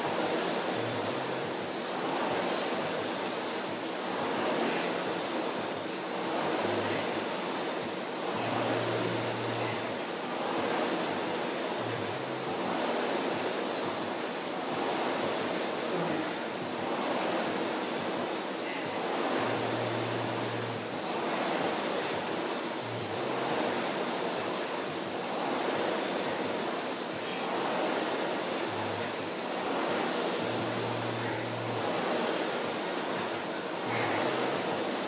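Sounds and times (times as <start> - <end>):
rowing machine flywheel whooshing: 0.0 - 35.0.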